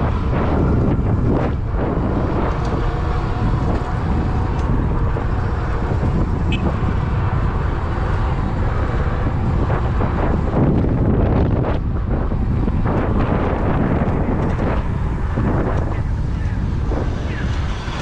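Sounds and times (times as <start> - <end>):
vehicle noise: 0.0 - 18.0
wind buffeting microphone: 0.0 - 18.0.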